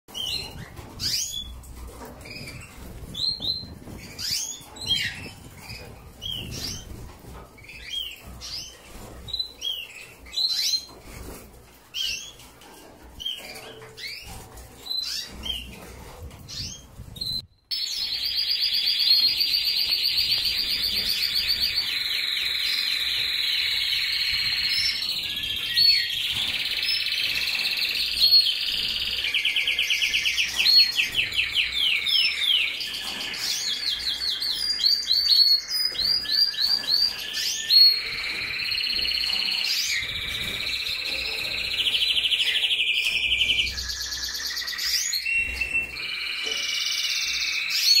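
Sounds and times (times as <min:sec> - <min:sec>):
canary singing trills: 0:00.1 - 0:48.0.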